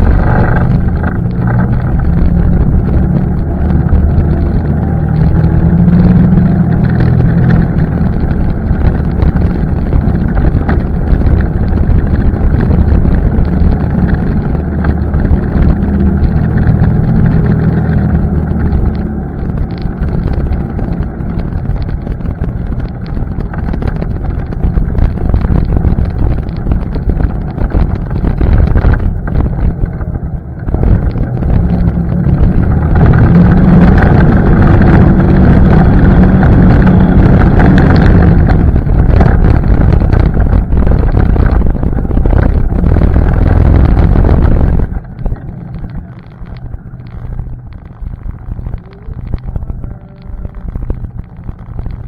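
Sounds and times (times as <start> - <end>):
atv engine running: 0.0 - 52.0
wind buffeting microphone: 0.0 - 52.0.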